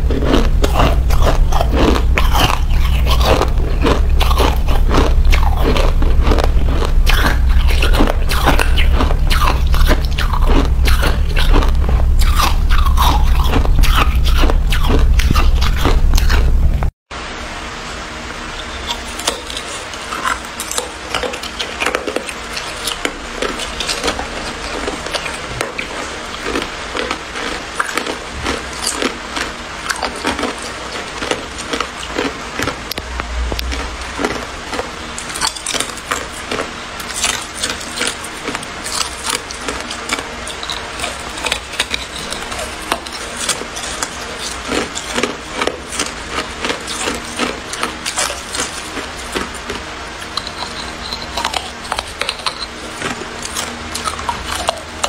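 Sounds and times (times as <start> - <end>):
ice being chewed and crunched: 0.0 - 16.7, 18.6 - 55.0.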